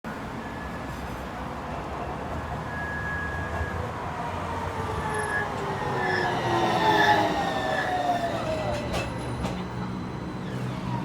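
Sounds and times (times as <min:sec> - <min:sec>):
tram rumble: 0:00.1 - 0:11.0.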